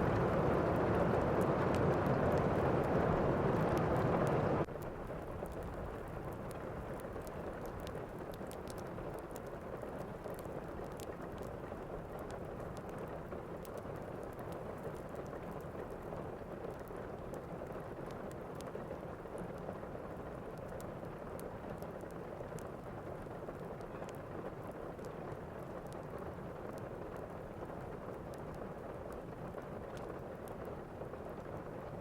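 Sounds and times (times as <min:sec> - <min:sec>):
faint crackles: 0:00.0 - 0:32.0
steady rain: 0:00.0 - 0:32.0.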